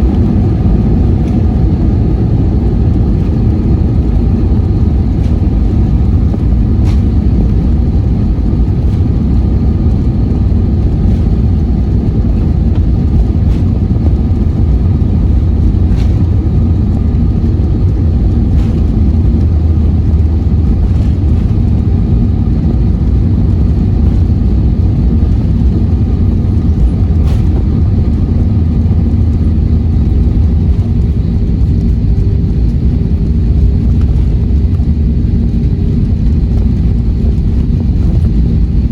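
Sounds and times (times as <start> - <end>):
aircraft engine and airflow rumble: 0.0 - 38.9
steady hum: 0.0 - 38.9.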